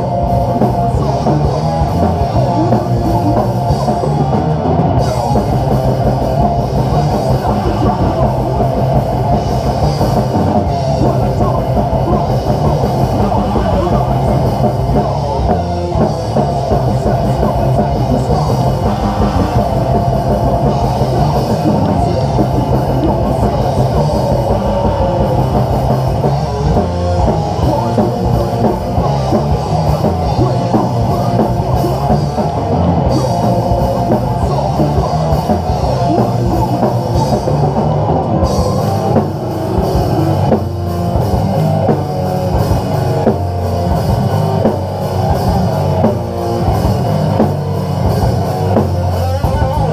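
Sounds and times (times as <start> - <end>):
distorted electric guitars: 0.0 - 49.9
drum kit: 0.0 - 49.9.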